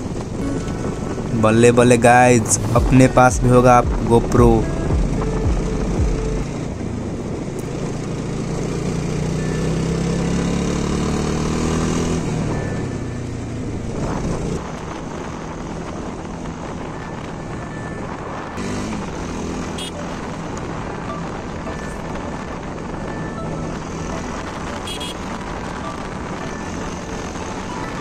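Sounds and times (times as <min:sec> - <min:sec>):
motorcycle engine accelerating: 0:02.8 - 0:28.0.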